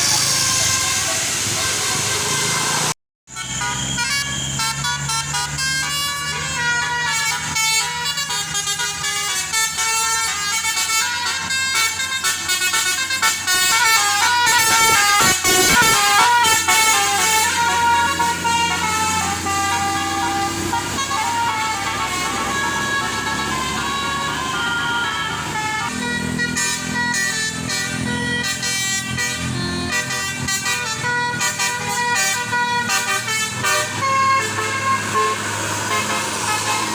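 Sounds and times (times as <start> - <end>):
bus engine running: 0.0 - 36.9
bus horns playing a quick tune: 0.0 - 36.9.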